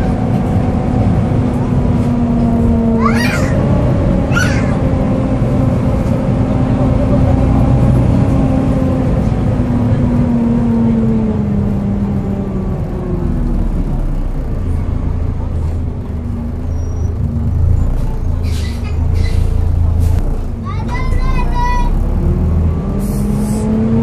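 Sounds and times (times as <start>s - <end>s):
bus engine and cooling fan droning: 0.0s - 24.0s.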